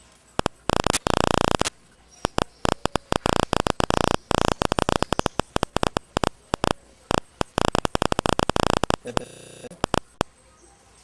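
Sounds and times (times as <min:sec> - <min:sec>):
stuttering electronic buzz: 0:00.4 - 0:10.3.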